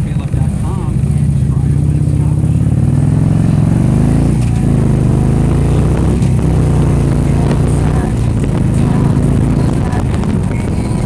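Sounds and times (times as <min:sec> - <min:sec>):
vehicle engine running loudly: 0:00.0 - 0:11.0.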